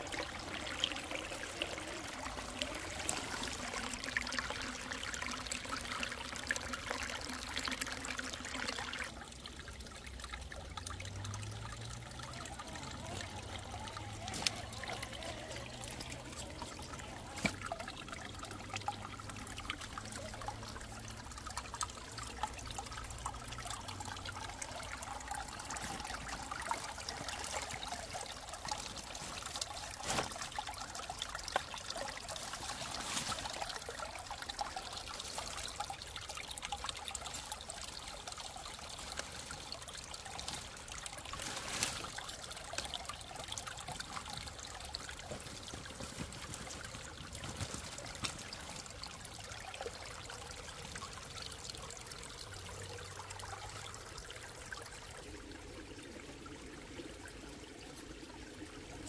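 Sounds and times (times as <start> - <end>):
creek trickling over rocks: 0.0 - 59.0.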